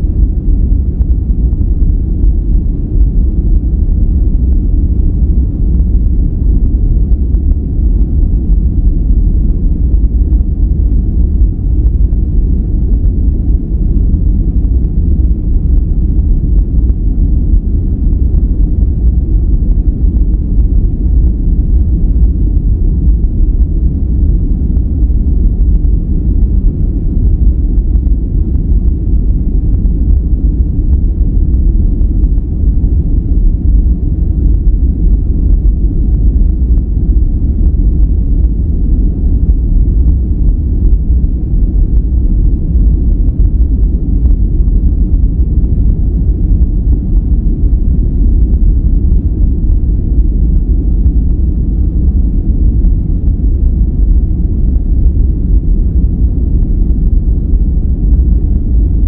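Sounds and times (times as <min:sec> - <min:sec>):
deep rumbling brown noise: 0:00.0 - 0:59.0.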